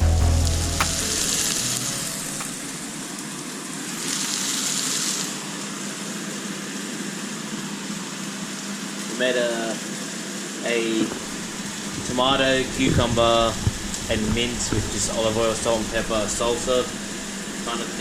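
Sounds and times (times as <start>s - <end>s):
food sizzling in a frying pan: 0.4s - 18.0s.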